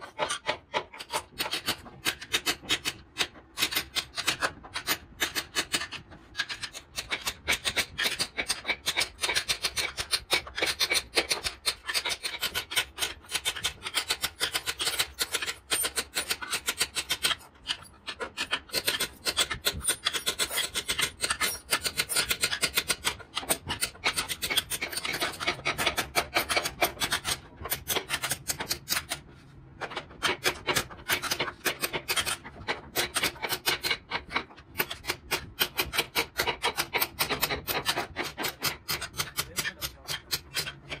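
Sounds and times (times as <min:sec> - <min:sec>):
hand tool scraping wood: 0:00.0 - 0:41.0.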